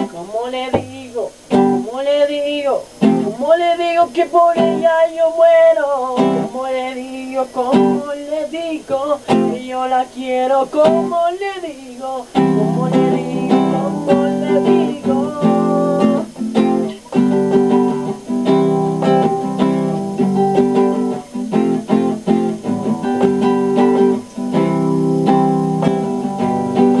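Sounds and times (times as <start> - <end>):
instrumental ballad chords: 3.0 - 27.0.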